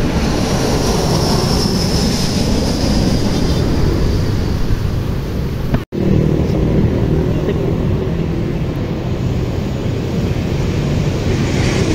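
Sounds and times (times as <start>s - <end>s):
jet engines roaring with whine: 0.0s - 11.9s.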